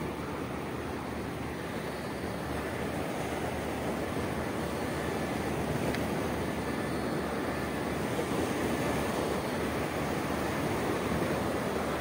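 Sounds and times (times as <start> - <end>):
surf on a beach: 0.0 - 12.0.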